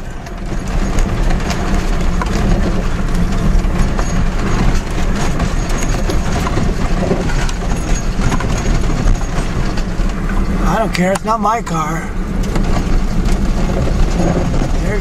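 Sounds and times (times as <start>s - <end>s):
car engine running: 0.0s - 15.0s
vehicle rattles and knocks: 0.0s - 15.0s.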